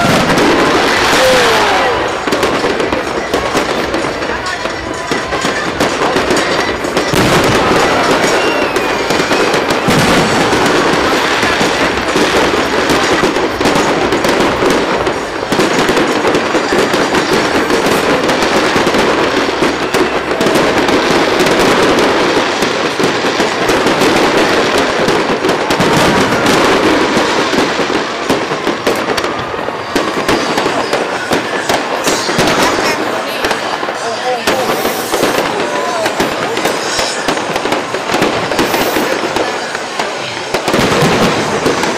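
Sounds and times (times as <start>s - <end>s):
fireworks crackling: 0.0s - 41.9s
fireworks pops: 0.0s - 41.9s.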